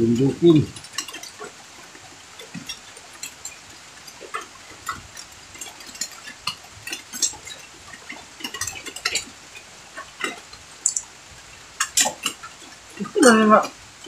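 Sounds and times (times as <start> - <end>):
lip smacks and chewing: 0.8 - 11.2, 11.8 - 13.8.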